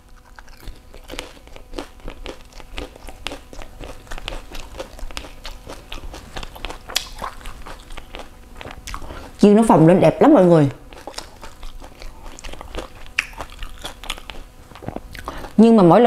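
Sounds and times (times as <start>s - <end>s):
crisp shell crunching when chewed: 0.0s - 9.4s, 10.8s - 15.6s.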